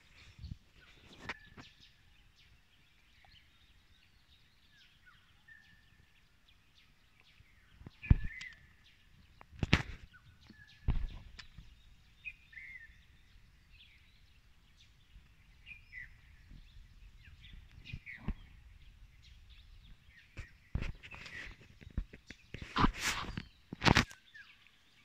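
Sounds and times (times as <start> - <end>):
forest ambience: 0.0 - 25.0
small birds chirping: 0.0 - 25.0.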